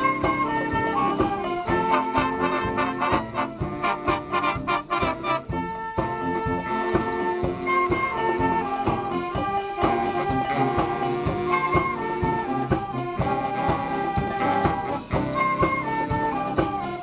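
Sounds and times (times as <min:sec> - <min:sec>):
brass music over a beat: 0:00.0 - 0:17.0.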